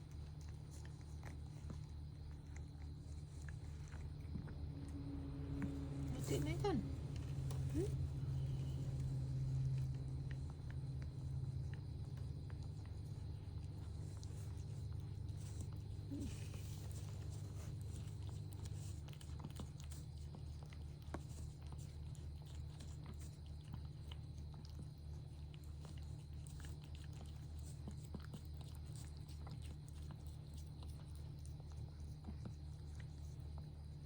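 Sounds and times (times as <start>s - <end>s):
cat chewing and licking: 0.0s - 34.0s.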